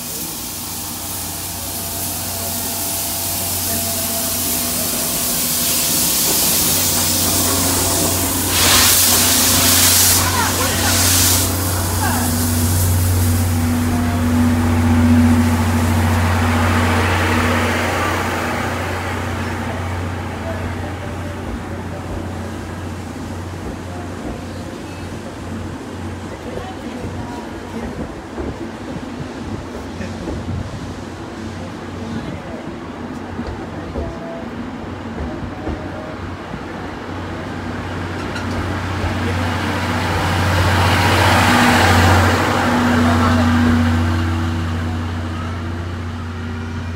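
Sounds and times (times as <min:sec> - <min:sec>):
train coaches rolling past: 0:00.0 - 0:46.9.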